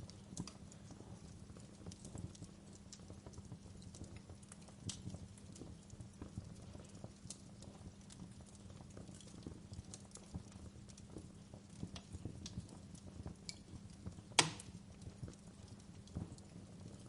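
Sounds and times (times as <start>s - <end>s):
campfire crackling and popping: 0.0s - 17.0s
low rumble of burning fire: 0.0s - 17.0s.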